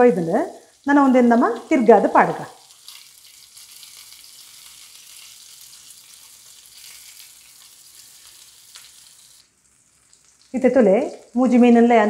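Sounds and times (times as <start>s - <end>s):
fish sizzling in a frying pan: 0.0s - 11.5s.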